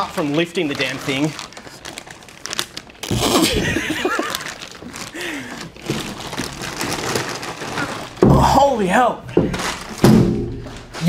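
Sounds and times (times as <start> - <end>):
plastic wrap rustling and crinkling: 0.0 - 11.0.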